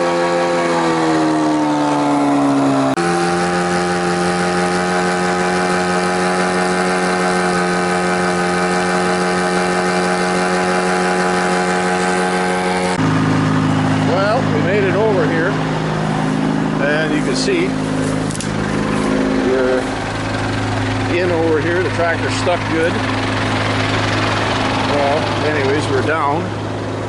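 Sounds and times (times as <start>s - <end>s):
diesel engine running at high revs: 0.0s - 27.0s.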